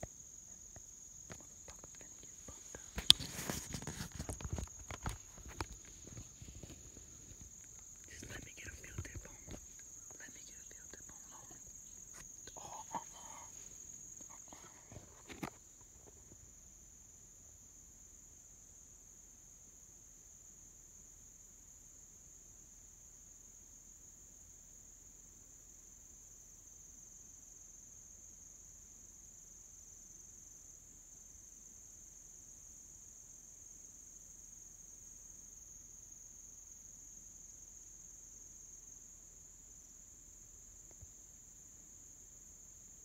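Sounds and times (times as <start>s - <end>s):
insect chorus trilling: 0.0s - 43.0s.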